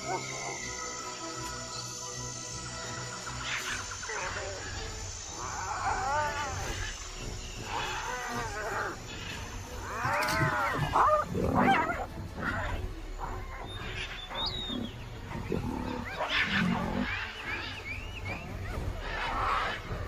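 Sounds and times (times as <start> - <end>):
lions calling: 0.0 - 0.7, 3.4 - 20.0
hyenas crying: 0.0 - 0.8, 3.4 - 20.0.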